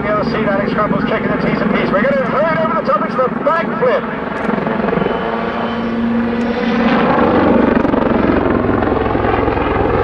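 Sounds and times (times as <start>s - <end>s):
helicopter engine whine: 0.0s - 10.0s
helicopter rotor chopping: 0.0s - 10.0s.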